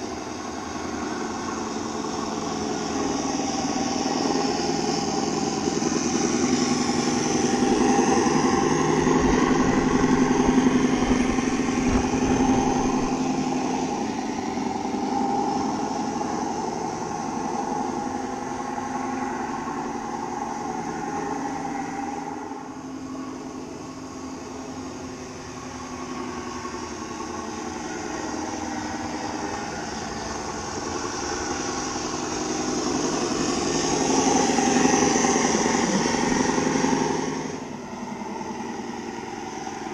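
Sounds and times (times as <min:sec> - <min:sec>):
model truck engine sound: 0:00.0 - 0:39.9.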